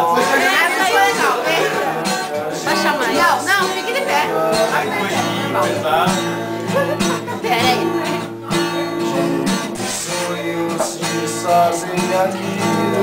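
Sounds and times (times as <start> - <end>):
acoustic guitar strumming: 0.0 - 13.0
men singing: 0.0 - 13.0.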